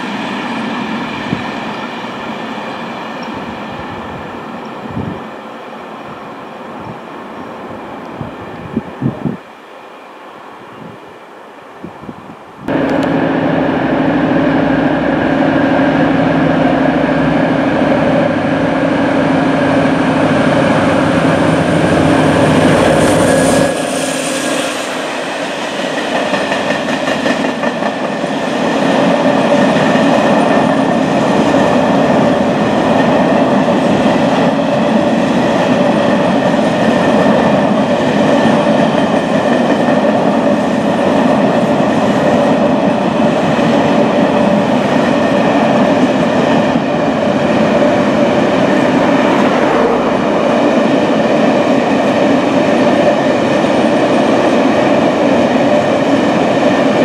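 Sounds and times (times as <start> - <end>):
train rumbling: 0.0 - 9.5, 11.7 - 57.0.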